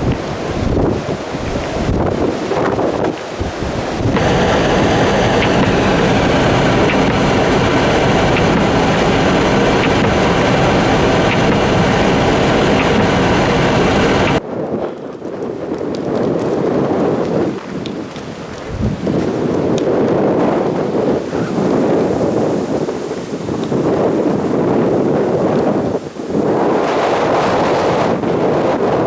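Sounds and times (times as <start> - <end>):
wind blasting microphone: 0.0 - 29.0.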